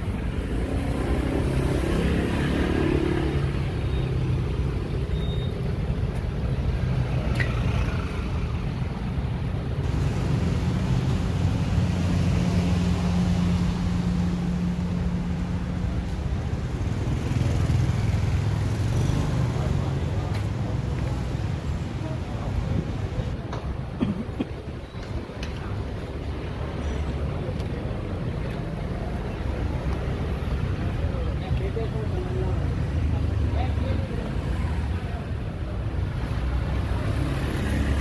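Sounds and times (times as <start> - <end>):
scooters and motorcycles passing: 0.0 - 9.1, 9.8 - 23.3, 25.6 - 38.0.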